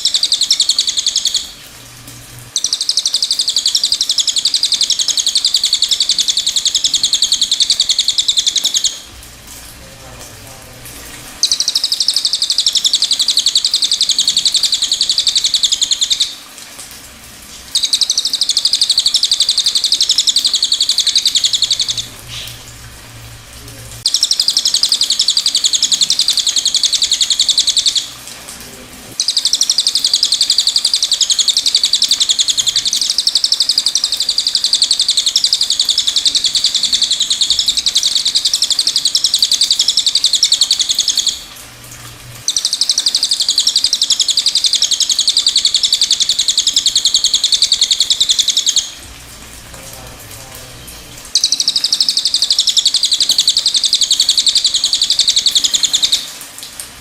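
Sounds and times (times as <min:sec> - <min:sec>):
songbird rapid high trill: 0:00.0 - 0:01.6, 0:02.6 - 0:09.0, 0:11.4 - 0:16.4, 0:17.8 - 0:22.6, 0:24.0 - 0:28.1, 0:29.2 - 0:41.5, 0:42.5 - 0:49.0, 0:51.3 - 0:56.3.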